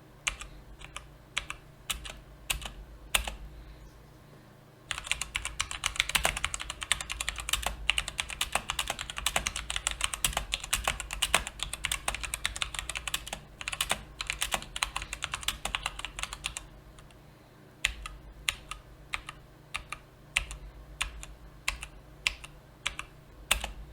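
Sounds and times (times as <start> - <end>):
mechanical keyboard typing: 0.3 - 3.4, 4.9 - 17.1, 17.8 - 23.8.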